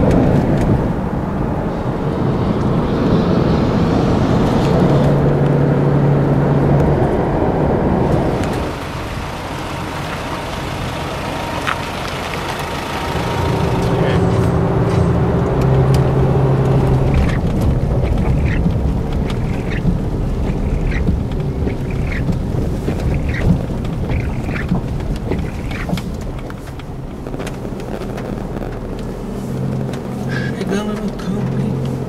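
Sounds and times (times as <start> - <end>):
truck engine drone: 0.0 - 32.0
tyre and road noise: 0.0 - 32.0.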